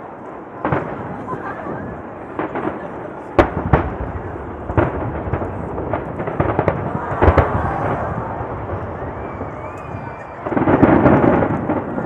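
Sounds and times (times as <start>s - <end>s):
fireworks bursting: 0.0s - 12.0s
fireworks rumble and crackle: 0.0s - 12.0s.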